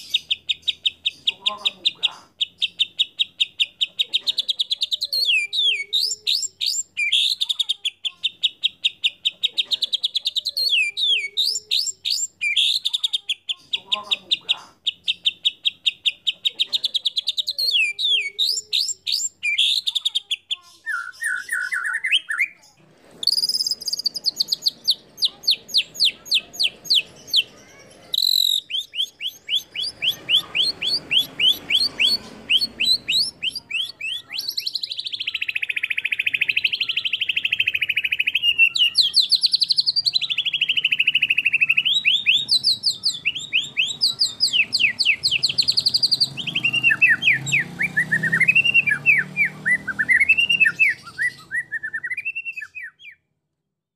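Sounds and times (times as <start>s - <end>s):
bird singing: 0.0s - 53.3s.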